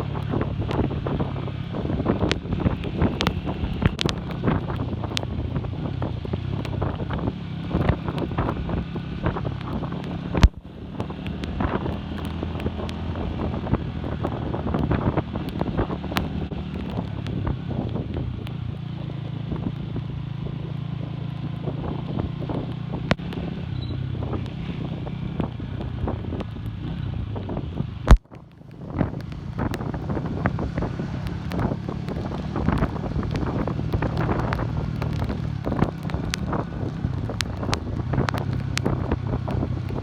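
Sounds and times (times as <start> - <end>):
motorcycle engine running: 0.0 - 40.0
wind buffeting microphone: 0.0 - 40.0.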